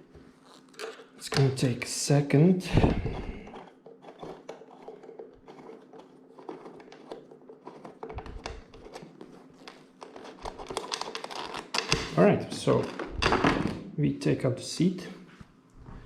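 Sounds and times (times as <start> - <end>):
steady low hum: 0.0 - 10.8, 11.9 - 16.0.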